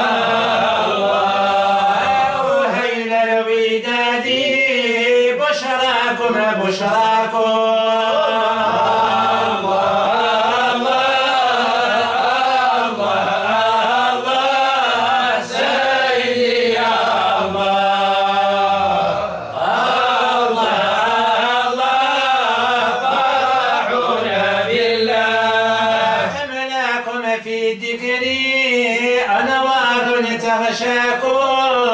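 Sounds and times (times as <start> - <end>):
man chanting unaccompanied: 0.0 - 31.9.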